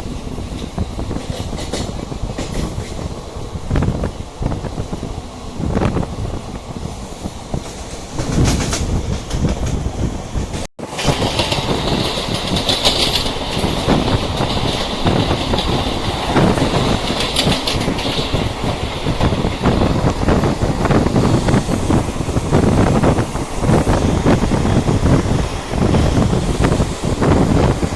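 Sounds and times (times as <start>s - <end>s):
train wheels clattering on rails: 0.0s - 6.1s, 6.8s - 27.9s.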